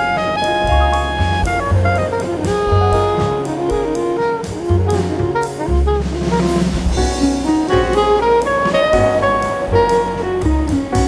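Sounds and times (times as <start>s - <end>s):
instrumental music with drums: 0.0s - 11.0s.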